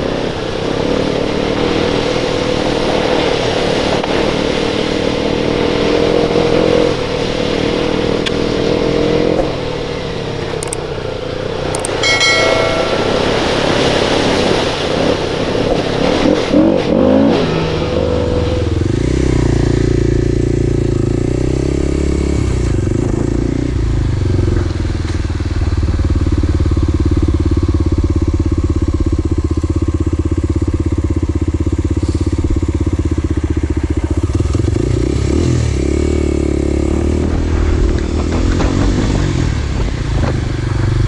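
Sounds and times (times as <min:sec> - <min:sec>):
motor vehicle engine running: 0:07.0 - 0:41.0.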